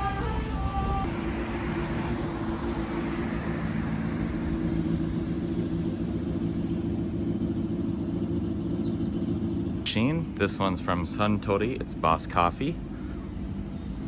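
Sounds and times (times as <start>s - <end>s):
road traffic going by: 0.0s - 14.0s
steady low hum: 0.0s - 14.0s.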